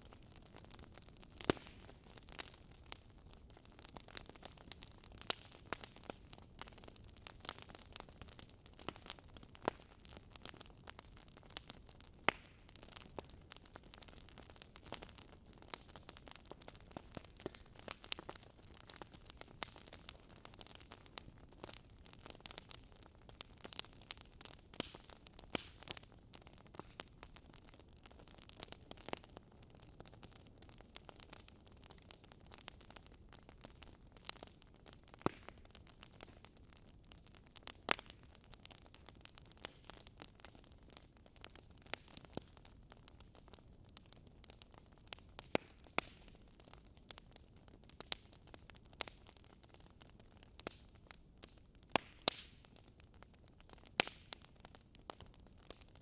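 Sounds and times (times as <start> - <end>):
faint steady hiss: 0.0 - 56.0
wood fire crackling and popping: 0.0 - 56.0.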